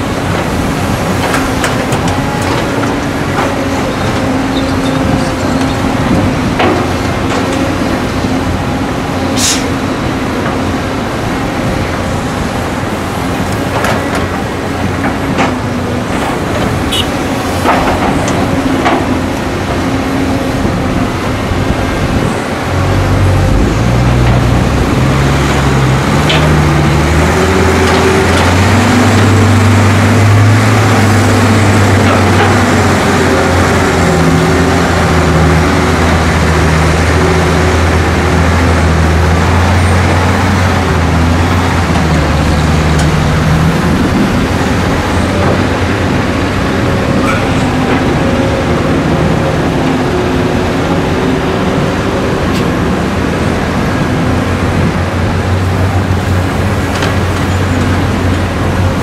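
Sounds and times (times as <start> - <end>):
heavy diesel engines: 0.0 - 59.0.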